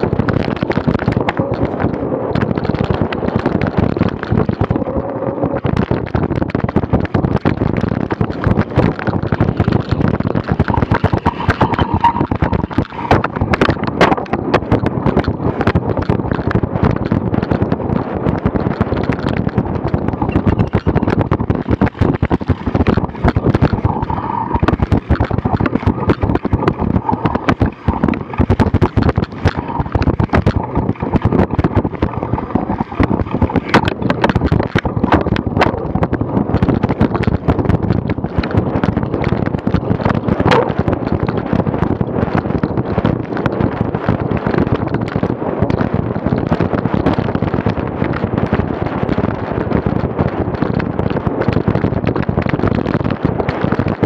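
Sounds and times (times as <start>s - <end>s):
bike rattling over bumps: 0.0s - 54.0s
wind buffeting microphone: 0.0s - 54.0s.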